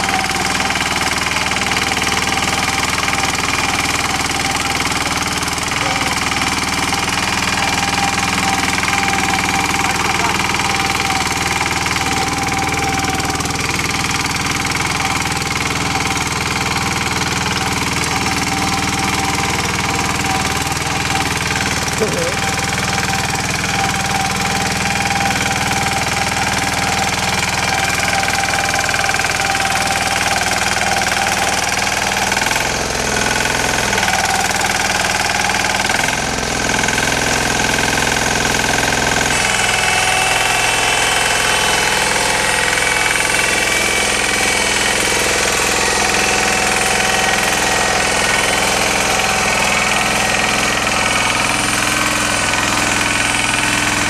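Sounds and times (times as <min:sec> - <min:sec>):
motor hoe churning soil: 0:00.0 - 0:54.0.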